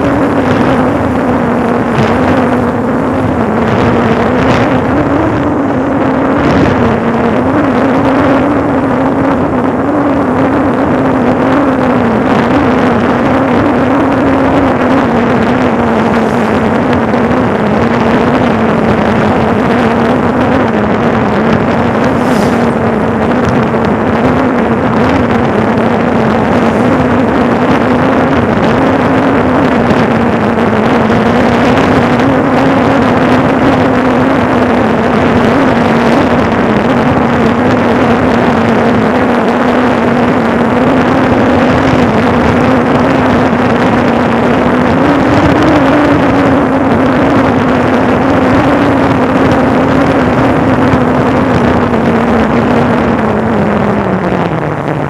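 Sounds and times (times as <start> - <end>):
vehicle engine running: 0.0 - 55.0
wind and road noise: 0.0 - 55.0.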